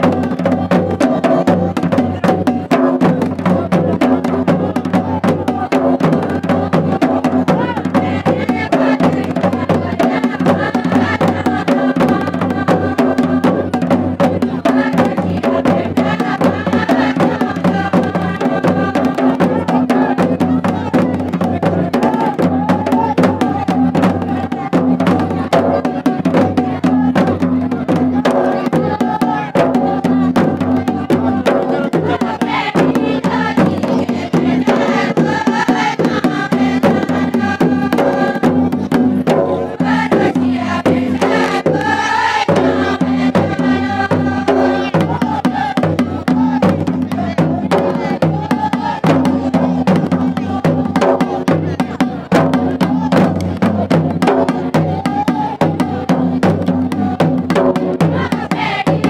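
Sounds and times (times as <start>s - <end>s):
fast drum beat: 0.0s - 59.0s
person singing: 0.0s - 59.0s.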